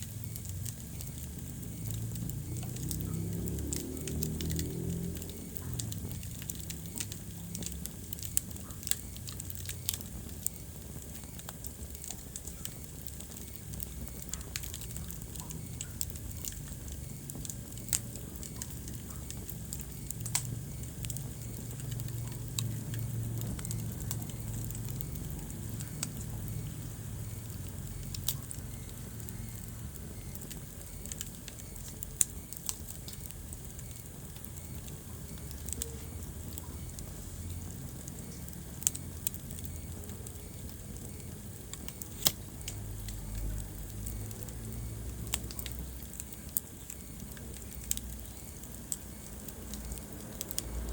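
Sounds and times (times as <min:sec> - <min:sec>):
fire crackling and popping: 0:00.0 - 0:50.9
fire rumbling: 0:00.0 - 0:50.9.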